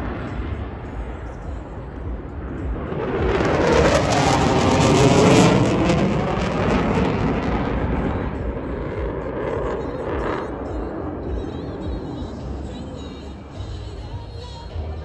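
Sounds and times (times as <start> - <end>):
airplane flying past: 0.0 - 13.5.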